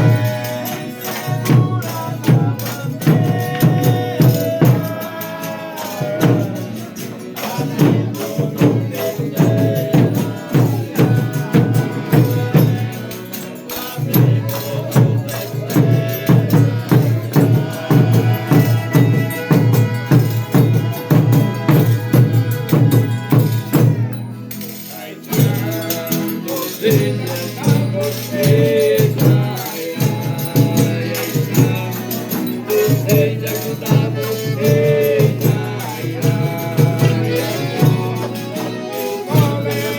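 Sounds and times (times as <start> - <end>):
folk ensemble playing and singing: 0.0 - 39.9
shaken tambourine beat: 0.0 - 39.9.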